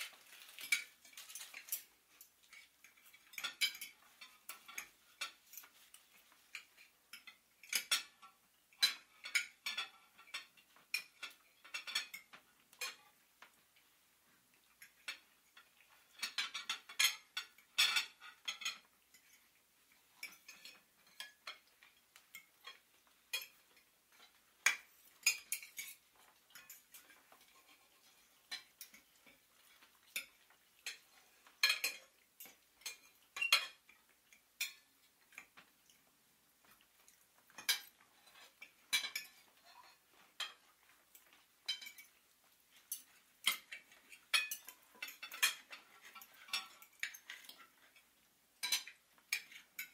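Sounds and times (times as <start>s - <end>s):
light clicks and clinks: 0.0s - 13.9s, 14.5s - 49.9s.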